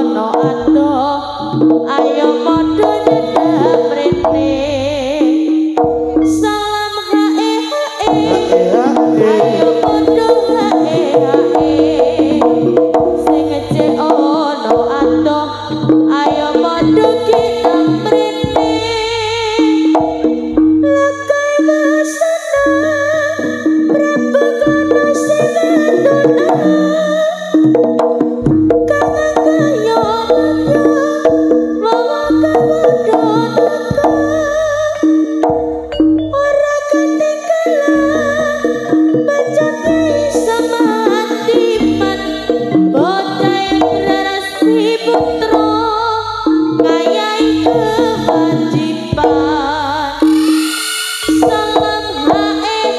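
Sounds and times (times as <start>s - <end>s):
low pulsing notes: 0.0s - 6.9s, 8.0s - 21.6s, 22.5s - 36.9s, 37.7s - 52.9s
hand drums beating: 0.0s - 21.8s, 22.6s - 52.9s
melody line: 0.0s - 52.9s
pitched gamelan percussion: 0.0s - 52.9s
struck metal notes ringing: 0.0s - 52.9s.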